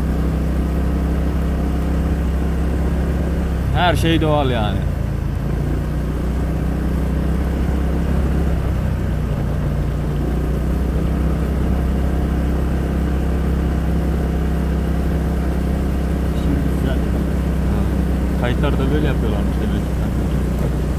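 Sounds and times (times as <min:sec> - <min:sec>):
road noise: 0:00.0 - 0:20.9
scooter engine running: 0:00.0 - 0:20.9.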